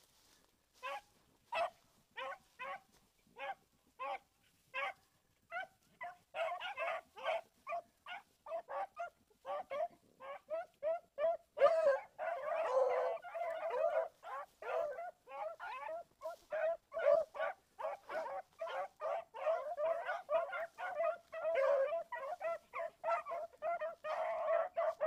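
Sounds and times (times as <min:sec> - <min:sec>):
hounds baying: 0:00.2 - 0:25.0.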